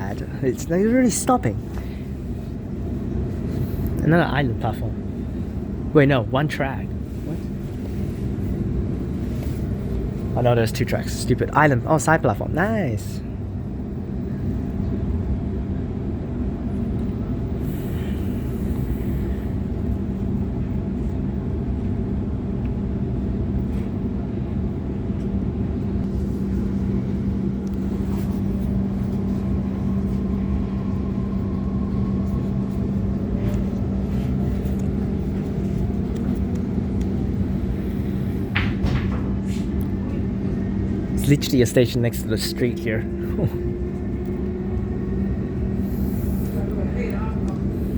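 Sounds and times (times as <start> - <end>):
train rumble and hum: 0.0 - 47.9.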